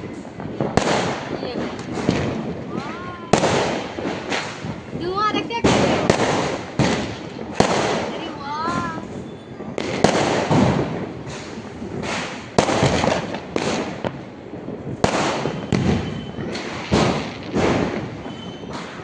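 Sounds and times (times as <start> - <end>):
firecrackers banging: 0.0 - 19.0.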